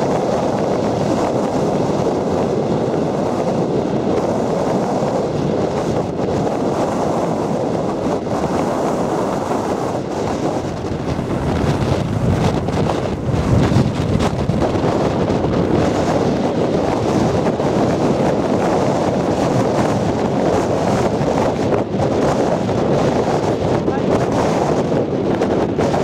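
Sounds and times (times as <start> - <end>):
wind blowing on microphone: 0.0 - 26.0.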